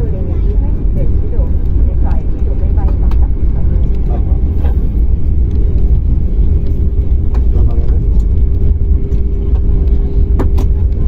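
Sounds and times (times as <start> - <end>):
airliner cabin rumble: 0.0 - 11.0
steady cabin hum: 0.0 - 11.0.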